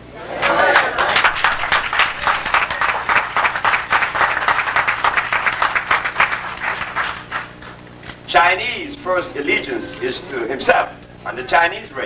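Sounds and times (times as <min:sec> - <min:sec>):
audience applauding: 0:00.4 - 0:10.6.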